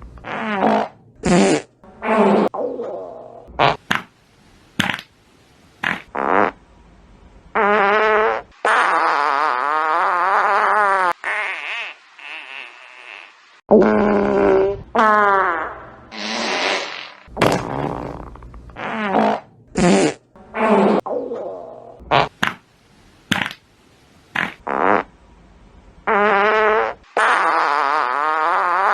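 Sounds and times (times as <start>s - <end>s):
fart sound effects: 0.2s - 4.1s, 5.8s - 6.6s, 7.6s - 22.6s, 24.3s - 25.1s, 26.0s - 28.9s.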